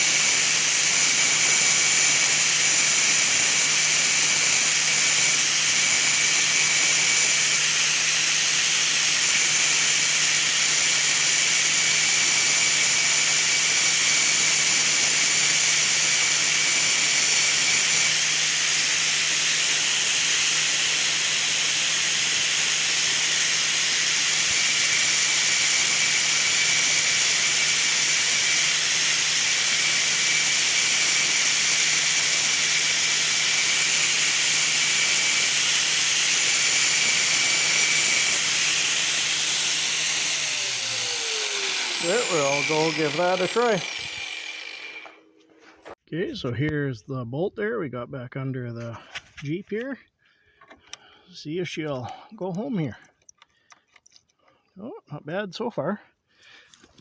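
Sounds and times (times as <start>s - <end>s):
grinder hissing over low hum: 0.0s - 46.0s.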